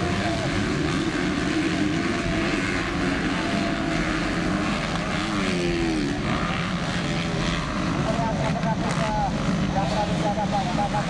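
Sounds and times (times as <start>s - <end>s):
dirt bike engines racing: 0.0s - 11.0s.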